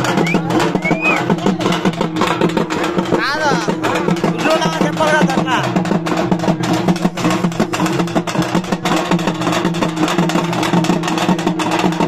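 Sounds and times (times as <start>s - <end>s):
fast steady drumming: 0.0s - 12.0s.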